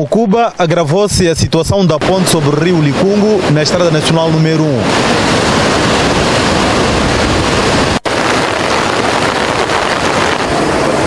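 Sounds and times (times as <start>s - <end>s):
floodwater rushing and roaring: 1.4s - 11.0s.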